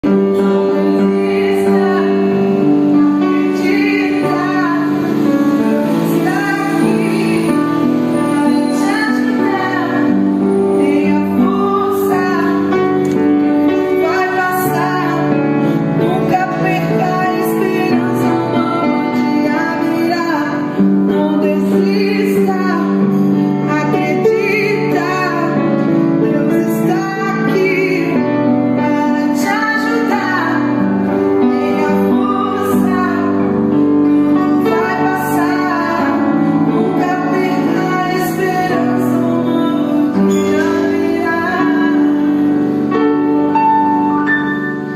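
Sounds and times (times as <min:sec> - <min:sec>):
held keyboard chords: 0:00.0 - 0:44.9
woman singing: 0:00.0 - 0:44.9.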